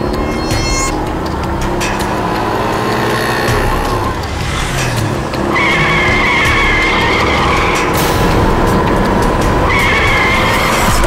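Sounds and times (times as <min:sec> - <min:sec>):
dramatic background music: 0:00.0 - 0:11.0
truck tyres screeching: 0:00.0 - 0:11.0
vehicle rumble: 0:00.0 - 0:11.0.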